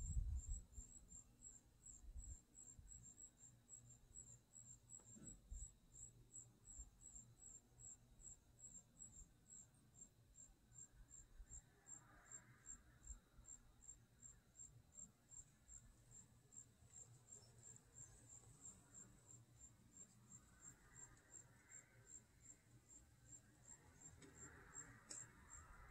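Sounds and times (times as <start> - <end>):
cricket chirping: 0.0 - 25.9.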